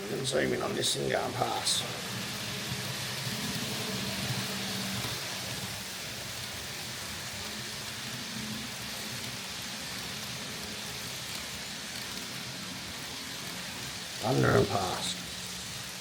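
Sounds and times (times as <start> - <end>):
faint motor hum: 0.0 - 16.0
model train hiss: 0.0 - 16.0.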